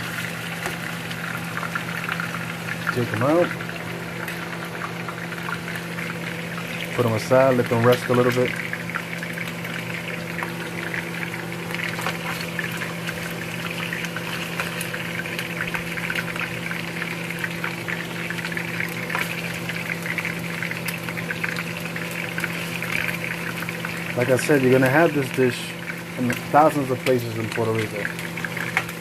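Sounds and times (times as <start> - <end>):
meat sizzling in hot oil: 0.0 - 29.0.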